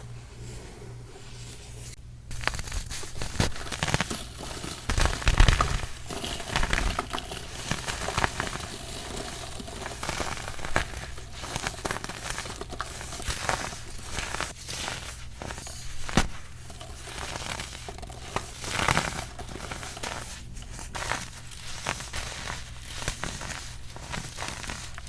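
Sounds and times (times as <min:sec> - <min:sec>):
powder crunching and crackling: 0:01.2 - 0:25.0.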